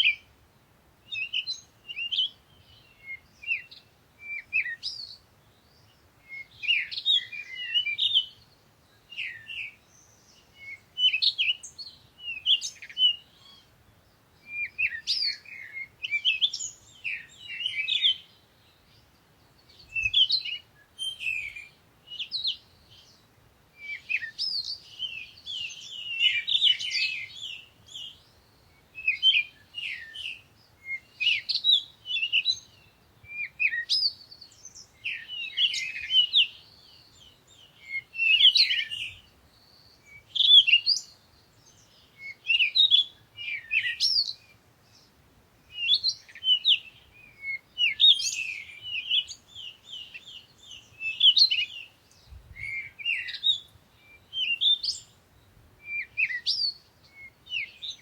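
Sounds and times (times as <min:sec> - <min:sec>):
songbirds chirping and singing: 0:01.1 - 0:58.0.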